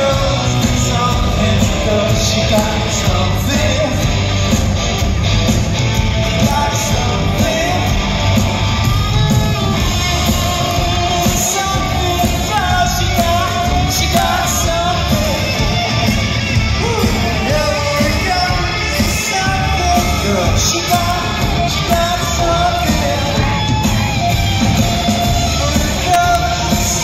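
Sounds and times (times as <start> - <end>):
person singing: 0.0 - 4.2, 6.3 - 27.0
live rock band playing: 0.0 - 27.0.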